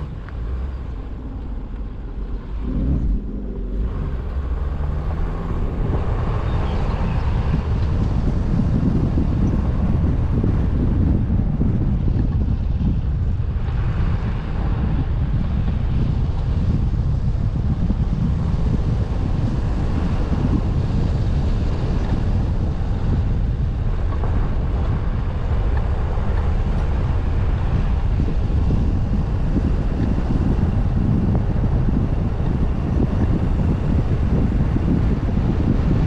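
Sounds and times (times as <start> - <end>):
car driving rumble: 0.0 - 36.0
wind buffeting microphone: 0.0 - 36.0.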